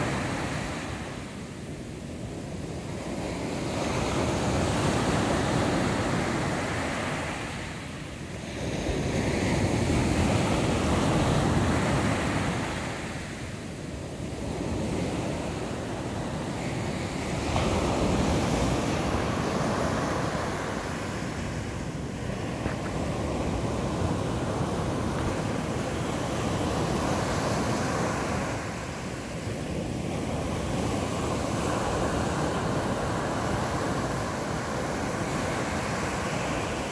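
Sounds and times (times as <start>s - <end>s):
waves breaking on a beach: 0.0s - 36.9s.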